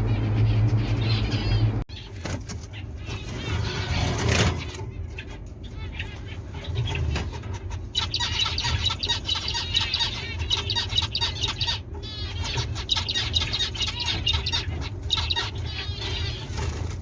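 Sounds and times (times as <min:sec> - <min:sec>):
cage birds chirping: 0:00.0 - 0:17.0
steady low hum: 0:00.0 - 0:17.0.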